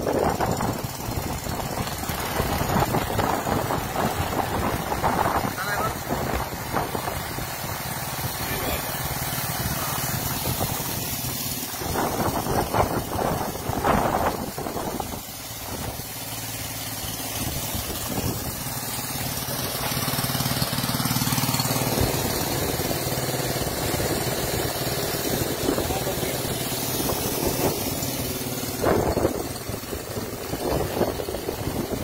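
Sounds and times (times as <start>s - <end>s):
small engine running steadily: 0.0s - 32.0s.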